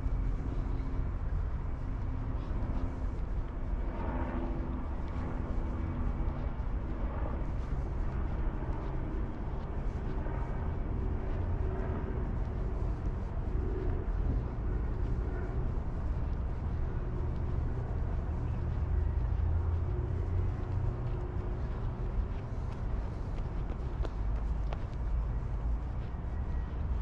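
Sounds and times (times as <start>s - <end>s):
low rumble of city traffic: 0.0s - 27.0s.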